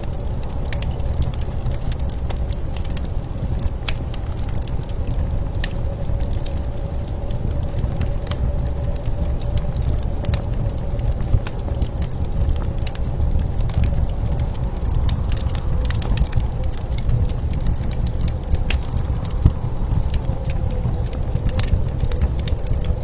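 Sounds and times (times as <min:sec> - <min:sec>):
blizzard wind rumbling: 0:00.0 - 0:23.0
wood fire crackling and popping: 0:00.0 - 0:23.0.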